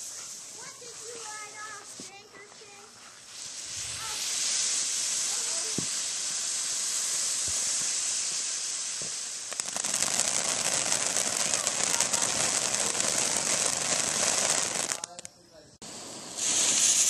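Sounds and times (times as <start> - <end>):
firework crackling: 0.0 - 17.0
firework hissing: 0.0 - 17.0.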